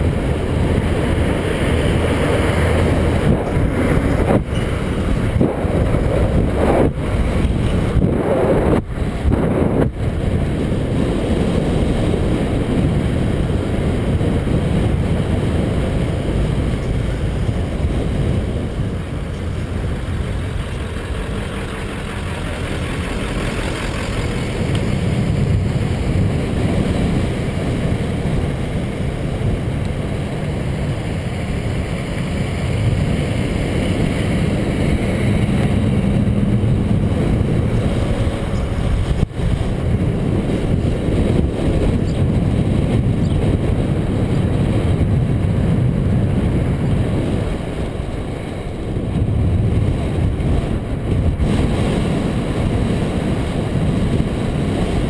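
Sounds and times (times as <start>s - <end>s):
motorcycle engine rumble: 0.0s - 55.0s
wind noise on microphone: 0.0s - 55.0s.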